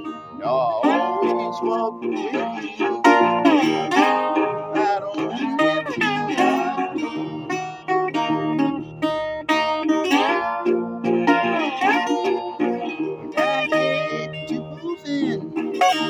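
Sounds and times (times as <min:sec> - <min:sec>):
slide guitar fingerstyle: 0:00.0 - 0:16.0.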